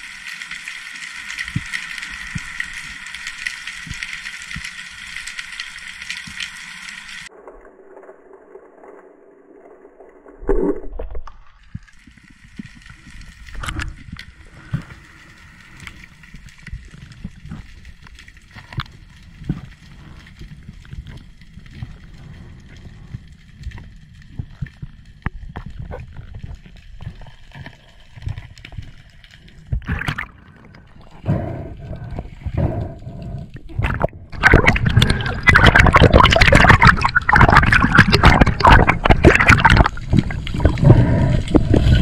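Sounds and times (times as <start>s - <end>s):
low knocks and clicks underwater: 1.4s - 6.6s, 10.0s - 42.0s.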